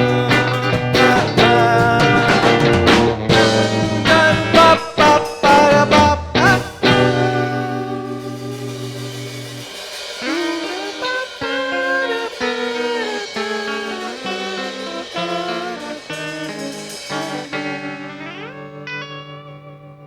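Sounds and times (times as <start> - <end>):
guitar playing chord and notes: 0.0 - 20.0.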